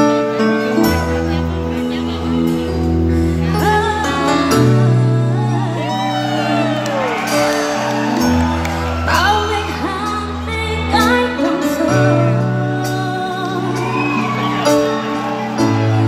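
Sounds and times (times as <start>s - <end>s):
keyboard chords: 0.0s - 16.0s.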